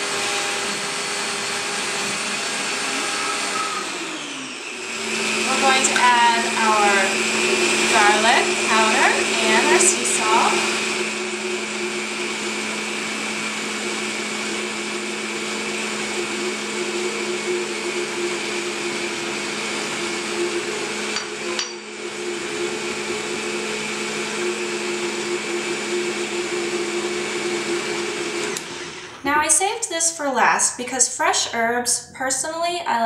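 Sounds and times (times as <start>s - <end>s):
blender running: 0.0s - 29.6s.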